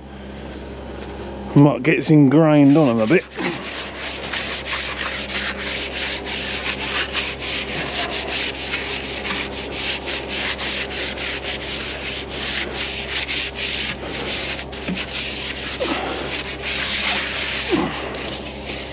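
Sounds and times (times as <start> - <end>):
brush scrubbing wheel rim: 2.4 - 18.9.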